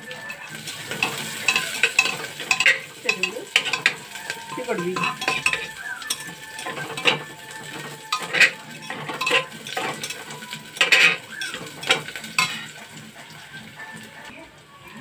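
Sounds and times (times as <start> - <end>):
onions sizzling in oil: 0.0 - 15.0
metal spoon scraping a pot: 0.1 - 13.7.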